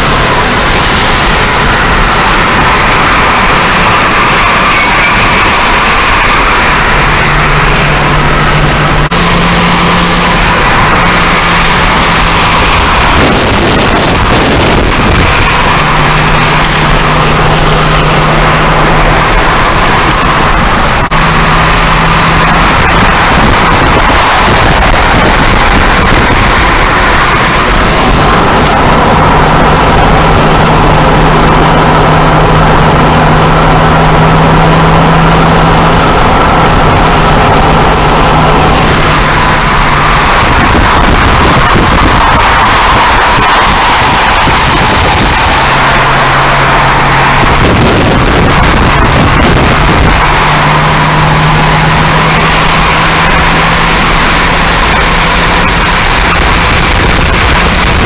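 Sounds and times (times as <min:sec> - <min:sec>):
road and wind noise in car: 0:00.0 - 0:58.0.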